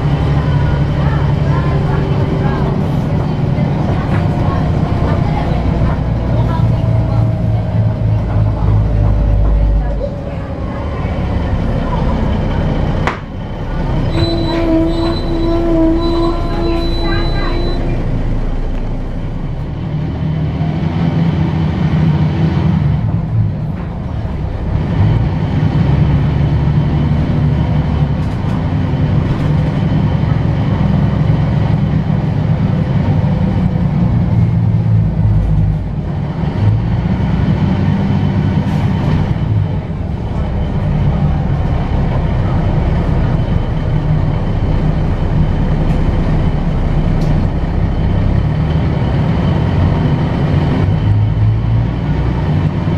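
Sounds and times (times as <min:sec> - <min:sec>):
bus engine drone from inside: 0:00.0 - 0:52.9.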